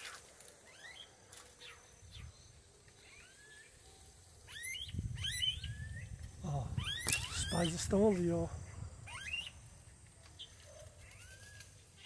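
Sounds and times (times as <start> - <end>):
birds whistled calls: 0.6 - 8.0, 9.0 - 9.7, 10.4 - 12.0.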